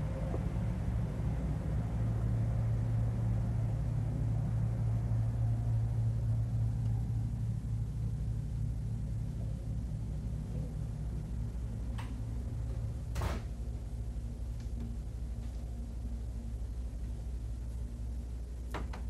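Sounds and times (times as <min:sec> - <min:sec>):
boat engines droning: 0:00.0 - 0:19.0.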